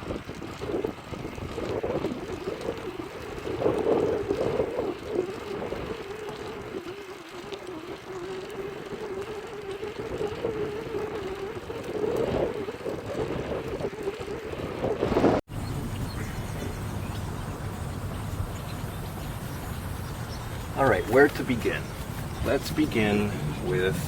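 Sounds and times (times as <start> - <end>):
bicycle drivetrain whirring: 0.0 - 24.0.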